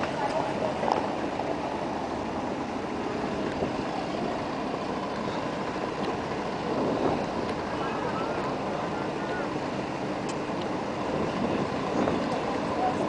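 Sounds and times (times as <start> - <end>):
busy street ambience: 0.0 - 13.0
large vehicle running: 0.0 - 13.0.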